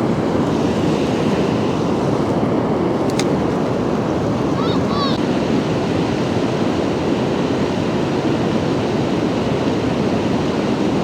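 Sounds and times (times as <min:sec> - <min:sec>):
river current rushing: 0:00.0 - 0:10.7.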